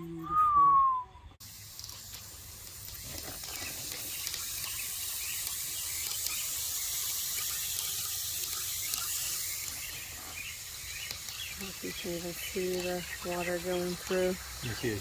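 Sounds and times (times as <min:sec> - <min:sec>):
water running into soil: 0:01.4 - 0:15.0.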